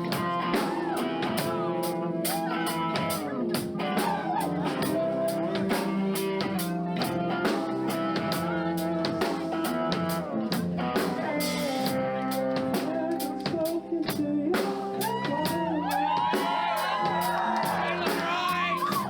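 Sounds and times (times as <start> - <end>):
drum kit beat: 0.0 - 19.0
person singing: 0.0 - 19.0
rock band playing: 0.0 - 19.0.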